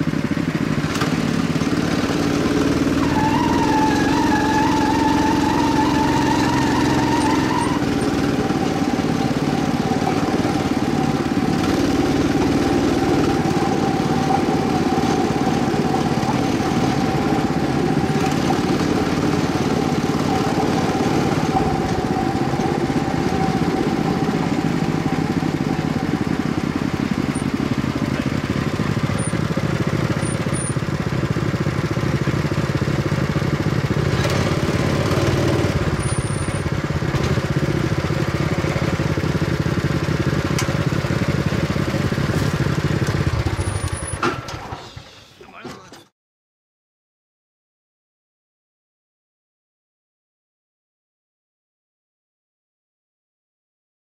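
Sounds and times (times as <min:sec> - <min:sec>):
cart running along rails: 0:00.0 - 0:45.0
small motor droning: 0:00.1 - 0:44.2.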